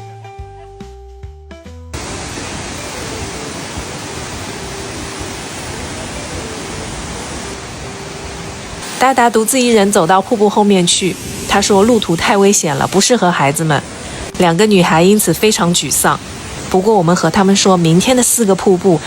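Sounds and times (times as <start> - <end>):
waterfall roaring: 2.0 - 19.0.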